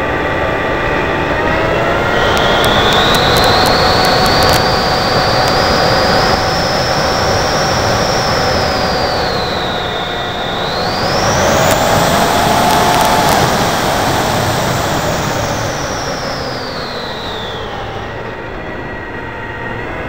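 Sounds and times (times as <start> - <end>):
model plane motor whining: 1.0 - 19.0
wind rushing: 1.5 - 18.2.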